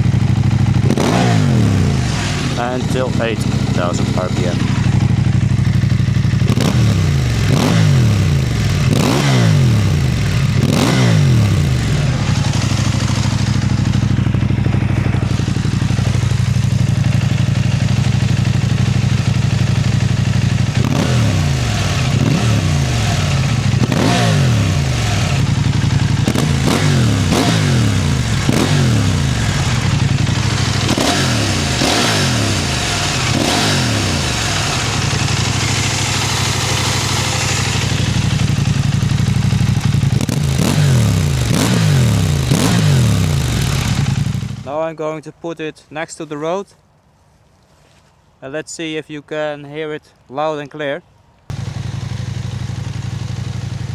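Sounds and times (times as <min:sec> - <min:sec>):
motorcycle engine idling: 0:00.0 - 0:44.7, 0:51.5 - 0:53.9
motorcycle engine revving: 0:00.0 - 0:44.7, 0:51.5 - 0:53.9.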